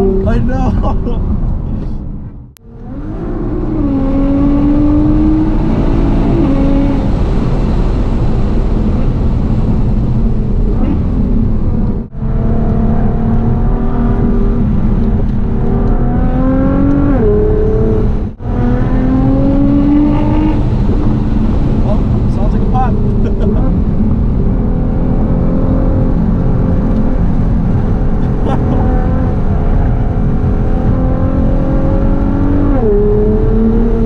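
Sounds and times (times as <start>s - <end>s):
race car engine accelerating: 2.6s - 9.4s, 10.5s - 34.0s.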